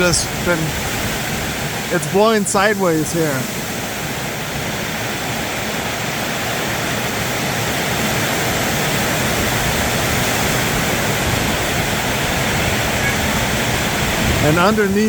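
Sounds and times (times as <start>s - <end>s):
heavy rain on a metal roof: 0.0s - 15.0s.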